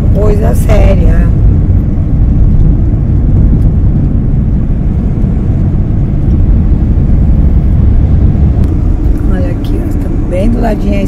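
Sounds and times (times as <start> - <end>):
car driving on highway: 0.0 - 11.0.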